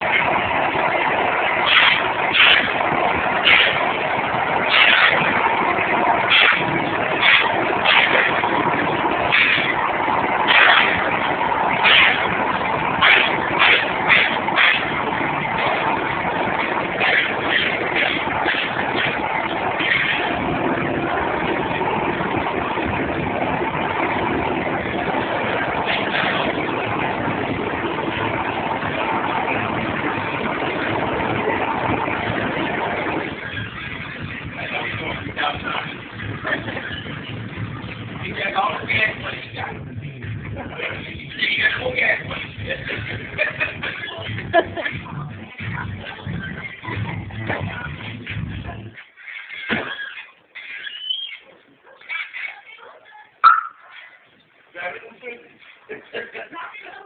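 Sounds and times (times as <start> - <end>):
truck rushing noise: 0.0 - 49.0
vehicle engine running: 0.0 - 49.0.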